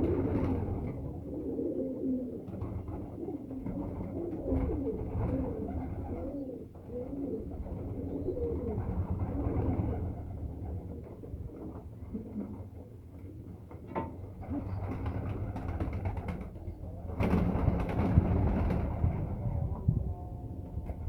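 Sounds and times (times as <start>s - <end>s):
pigeons cooing: 0.0s - 13.6s, 14.2s - 20.0s.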